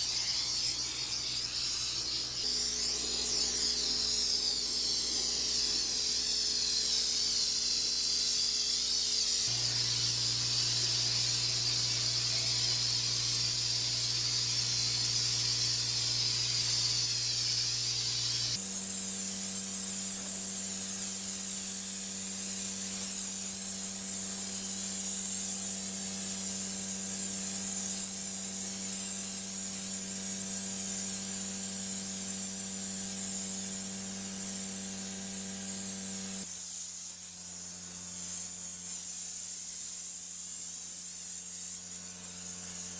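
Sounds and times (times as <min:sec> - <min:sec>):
pressure washer spraying water: 0:00.0 - 0:42.9.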